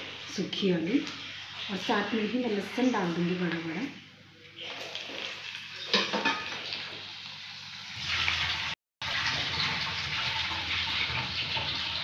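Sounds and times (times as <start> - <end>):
garlic and chillies sizzling in oil: 0.0 - 4.0, 4.6 - 12.0.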